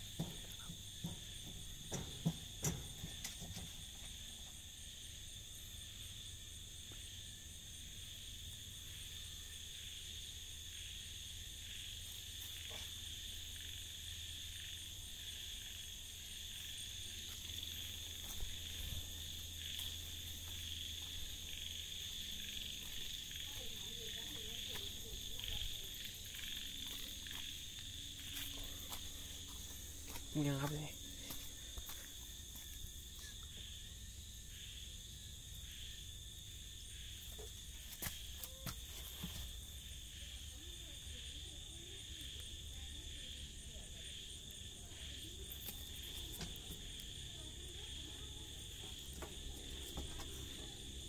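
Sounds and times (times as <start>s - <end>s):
crickets and frogs trilling: 0.0s - 51.0s.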